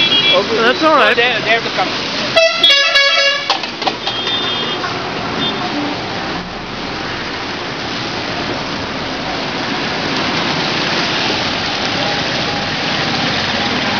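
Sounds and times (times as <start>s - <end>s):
traffic engines: 0.0s - 13.9s
tyres hissing on wet road: 0.0s - 13.9s.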